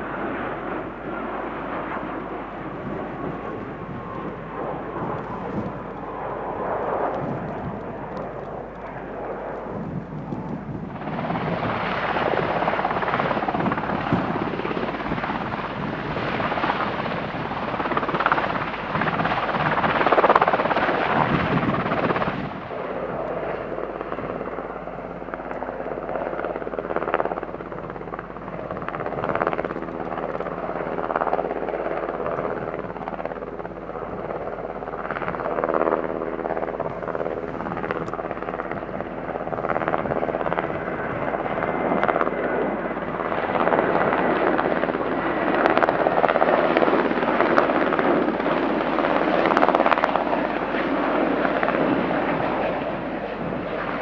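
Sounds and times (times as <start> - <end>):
helicopter rotor and engine: 0.0 - 54.0
jet flying over: 0.0 - 54.0.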